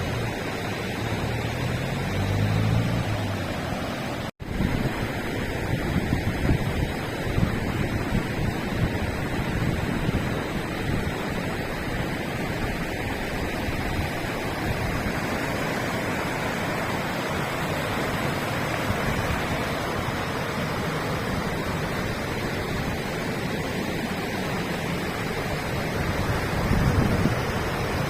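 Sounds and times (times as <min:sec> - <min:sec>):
river water rushing: 0:00.0 - 0:28.0
low wind rumble on microphone: 0:04.4 - 0:28.0.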